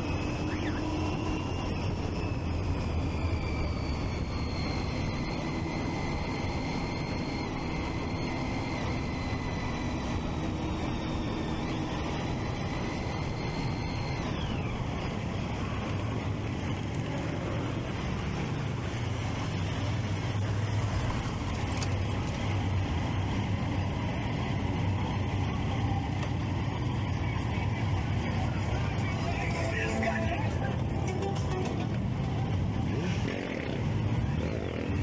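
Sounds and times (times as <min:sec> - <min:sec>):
motorcycle engine running: 0:00.0 - 0:35.0
wind and road noise: 0:00.0 - 0:35.0.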